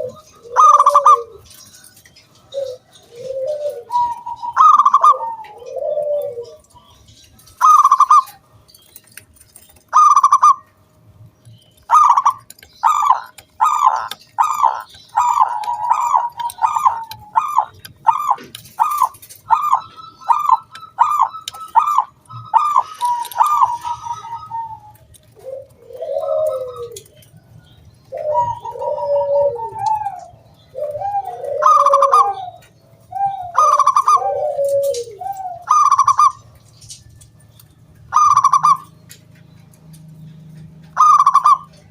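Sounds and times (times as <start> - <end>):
dove cooing: 0.0 - 8.5, 9.7 - 10.8, 11.8 - 37.2, 38.0 - 39.2, 40.4 - 41.9.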